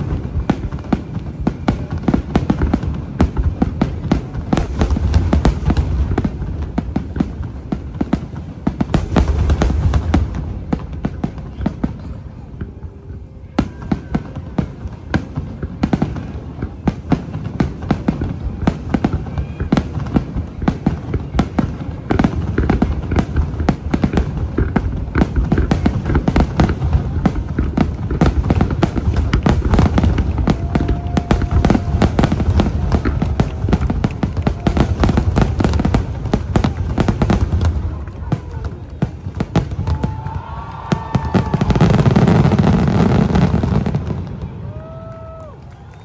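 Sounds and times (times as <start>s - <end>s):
fireworks exploding: 0.0s - 46.0s.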